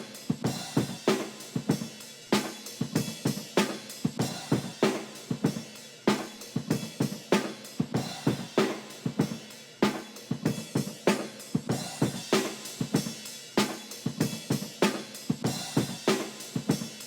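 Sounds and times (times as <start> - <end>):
electronic drum groove: 0.0 - 17.0.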